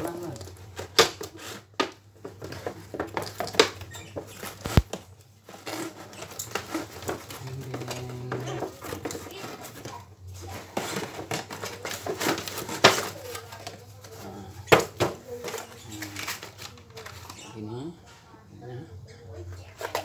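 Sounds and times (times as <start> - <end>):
cardboard scraping and rustling: 0.0 - 17.4.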